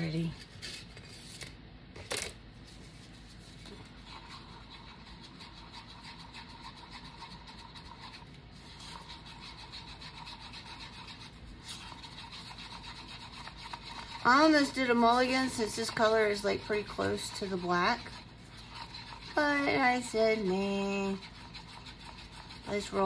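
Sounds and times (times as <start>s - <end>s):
stir stick scraping paper cup: 2.8s - 23.0s.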